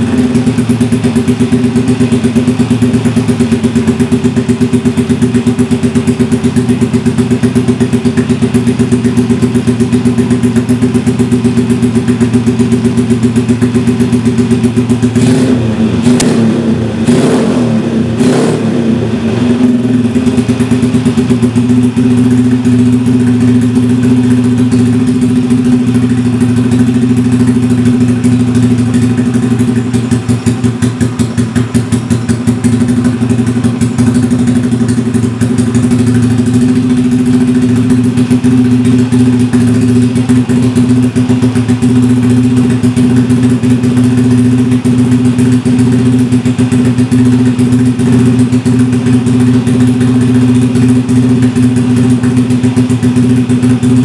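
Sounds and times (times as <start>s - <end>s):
engine throttle blips: 0.0s - 54.0s
motorcycle engine idling: 0.0s - 54.0s.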